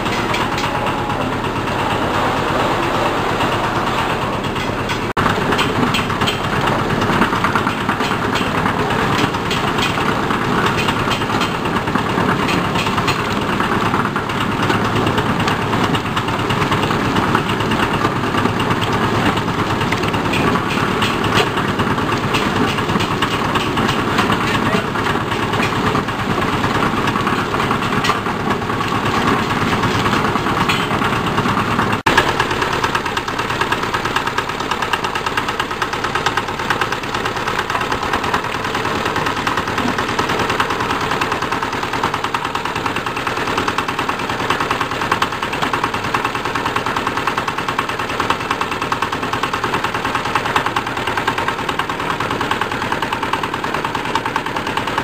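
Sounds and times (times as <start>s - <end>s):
small diesel engine knocking: 0.0s - 55.0s.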